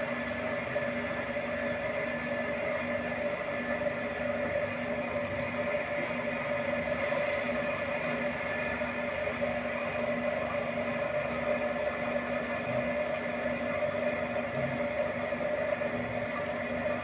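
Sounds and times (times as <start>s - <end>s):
potter's wheel hum and whine: 0.0s - 17.0s.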